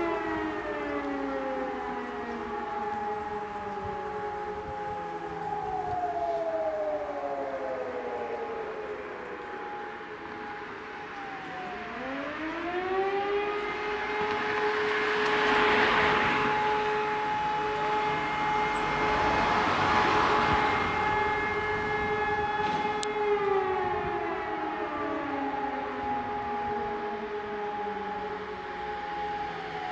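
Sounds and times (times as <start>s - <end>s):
distant sirens at other pitches: 0.0s - 29.9s
electric motor siren wailing: 0.0s - 29.9s.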